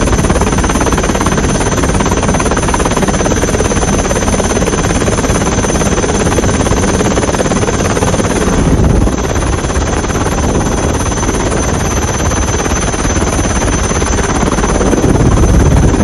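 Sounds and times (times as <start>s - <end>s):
helicopter rotor and engine noise: 0.0s - 16.0s.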